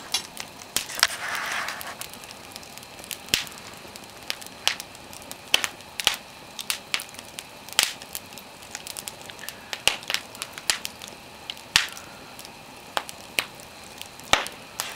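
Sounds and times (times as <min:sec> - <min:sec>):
low steady hiss: 0:00.0 - 0:14.9
wood fire crackling: 0:00.0 - 0:14.9.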